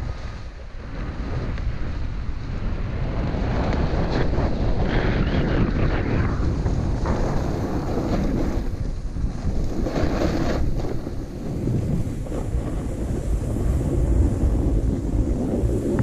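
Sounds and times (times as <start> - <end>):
snowboard scraping snow: 0.0 - 16.0
wind buffeting microphone: 0.0 - 16.0.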